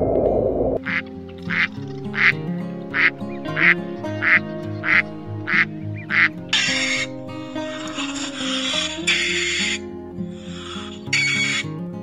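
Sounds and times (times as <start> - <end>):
duck quacking: 0.8 - 11.7
background music: 0.8 - 12.0.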